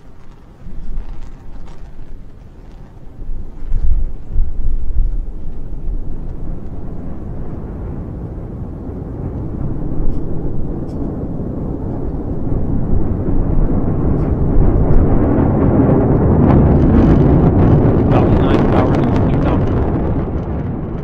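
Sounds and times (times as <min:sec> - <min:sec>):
low rumble of rocket engines: 0:00.0 - 0:21.0.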